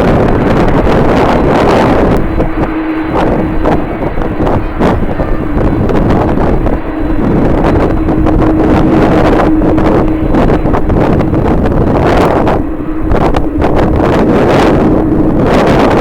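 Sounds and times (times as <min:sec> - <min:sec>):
steady low hum: 0:00.0 - 0:16.0
wind buffeting microphone: 0:00.0 - 0:16.0.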